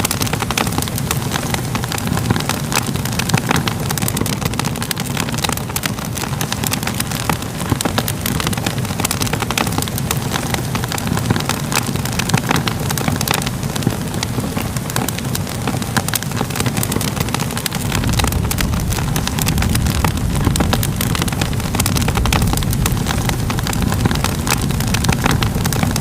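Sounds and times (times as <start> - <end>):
low rumble of flames: 0.0 - 26.0
wood fire crackling: 0.0 - 26.0.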